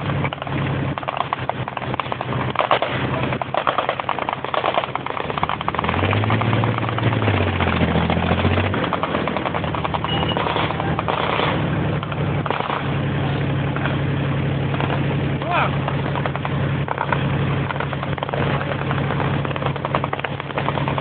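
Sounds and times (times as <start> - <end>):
dense rapid rattle: 0.0 - 13.0, 14.7 - 21.0
military vehicle engine running: 0.0 - 21.0.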